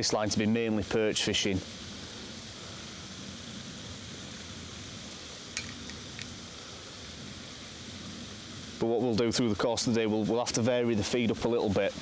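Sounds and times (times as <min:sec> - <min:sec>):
low background hiss: 0:00.0 - 0:12.0.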